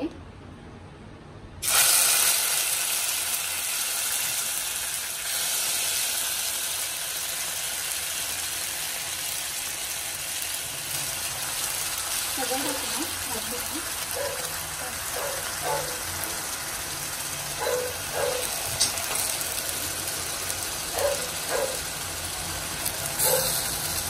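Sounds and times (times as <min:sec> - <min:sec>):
paste sizzling in hot oil: 0:01.6 - 0:24.0.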